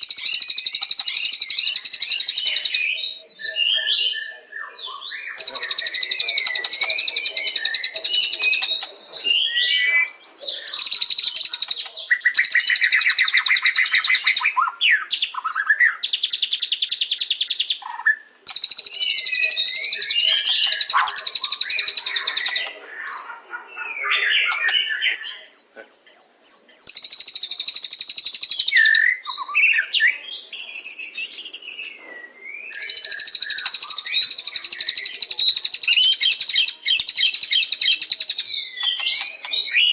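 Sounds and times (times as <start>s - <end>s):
bird singing rapid trills: 0.0s - 32.0s, 32.6s - 39.9s.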